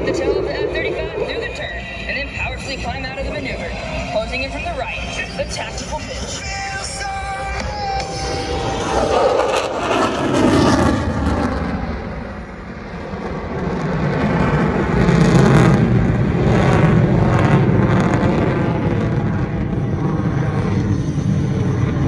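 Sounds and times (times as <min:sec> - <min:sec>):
jet engine roar in afterburner: 0:00.0 - 0:22.0.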